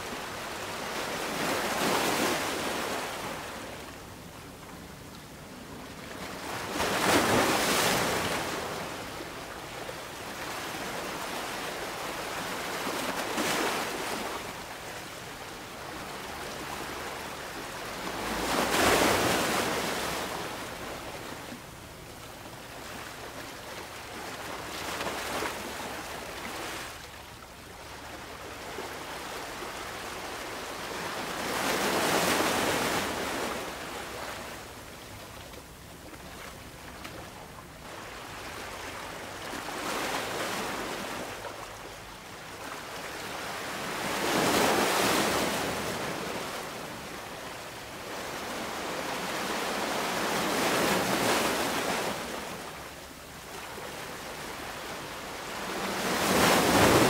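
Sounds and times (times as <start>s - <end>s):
waves breaking on shore: 0.0s - 57.0s
surf washing: 5.8s - 35.6s, 36.2s - 57.0s.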